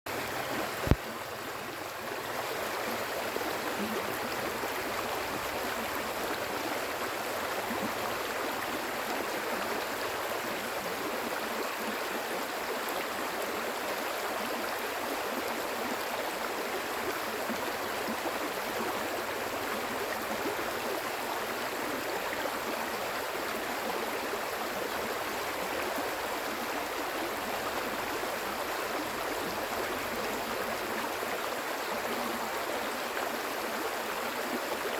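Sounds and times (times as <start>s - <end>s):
stream water rushing: 0.1s - 34.9s.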